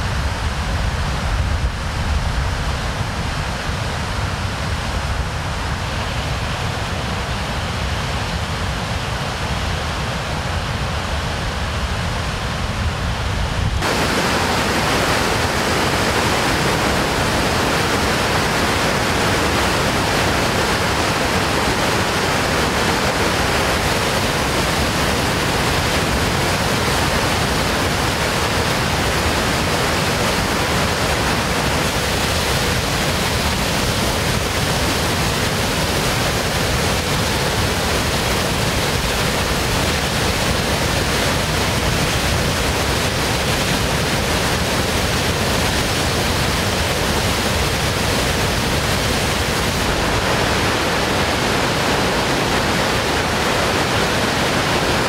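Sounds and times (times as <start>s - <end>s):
floodwater rushing over spillway: 0.0s - 55.0s.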